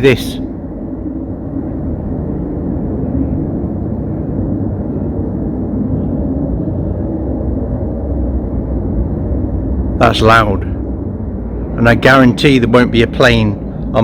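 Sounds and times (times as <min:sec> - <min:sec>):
muffled low rumble: 0:00.0 - 0:14.0.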